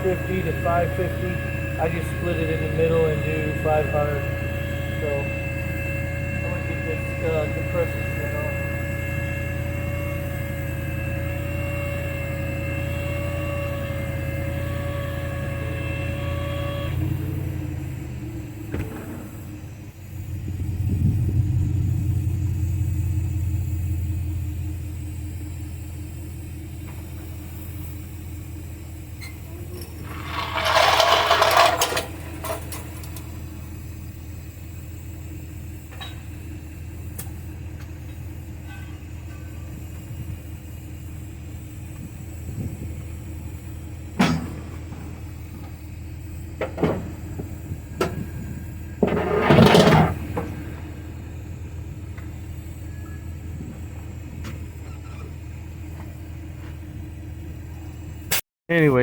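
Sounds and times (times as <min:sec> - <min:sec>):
motor rumbling: 0:00.0 - 0:58.3.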